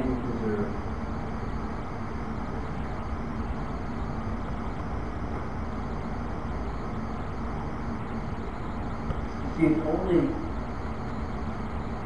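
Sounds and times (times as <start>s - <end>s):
faint constant hum: 0.0s - 12.0s
low rumble and hiss: 0.0s - 12.0s.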